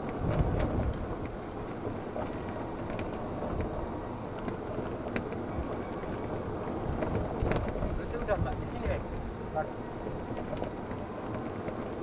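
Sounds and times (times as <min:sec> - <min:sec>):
golf cart rumbling: 0:00.0 - 0:12.0
wind noise on microphone: 0:00.0 - 0:12.0.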